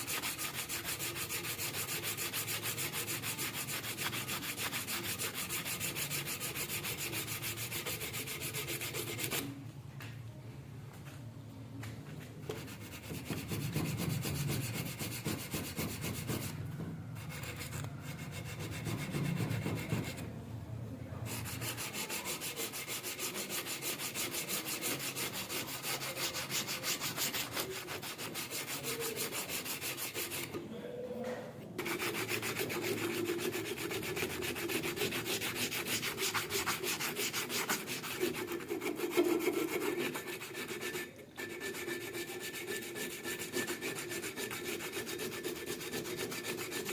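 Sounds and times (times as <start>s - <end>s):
abrasive scrubbing on metal: 0.0s - 9.6s, 12.5s - 20.3s, 21.2s - 30.6s, 31.8s - 46.9s.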